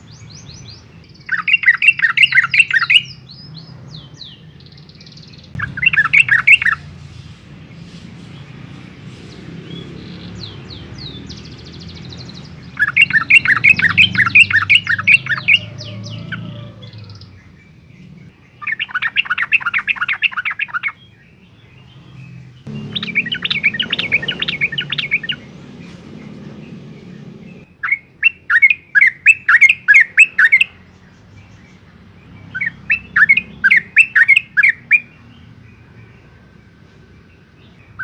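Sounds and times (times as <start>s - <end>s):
bird singing chattering notes: 0.0s - 6.9s, 9.3s - 36.7s.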